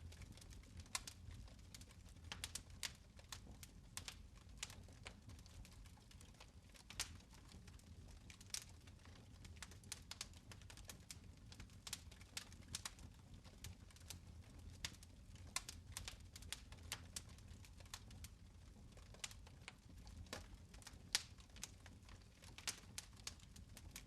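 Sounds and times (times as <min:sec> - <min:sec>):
fire crackling in fireplace: 0:00.0 - 0:24.0.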